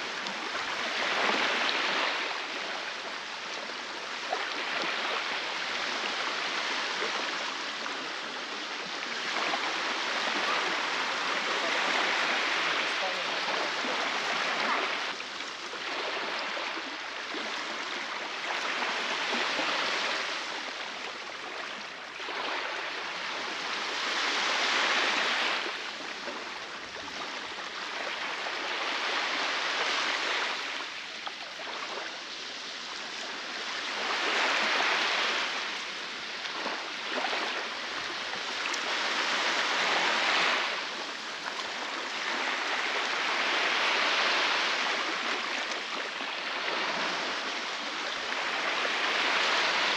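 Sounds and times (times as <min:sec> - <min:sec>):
waves breaking on a beach: 0:00.0 - 0:49.9.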